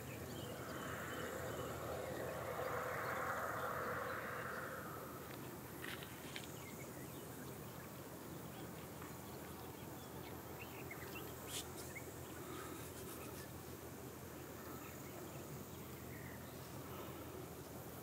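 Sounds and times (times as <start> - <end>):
steady hiss: 0.0 - 8.2, 10.3 - 18.0.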